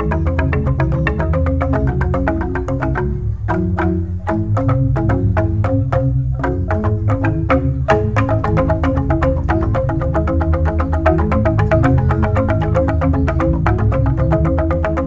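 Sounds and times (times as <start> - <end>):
bamboo xylophone ensemble: 0.0 - 15.0.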